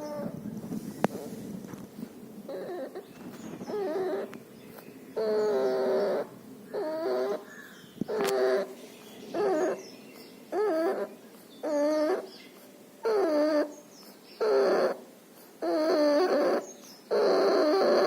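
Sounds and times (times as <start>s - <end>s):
puppy whimpering: 0.0s - 0.4s, 2.5s - 8.7s, 9.3s - 9.8s, 10.5s - 18.0s.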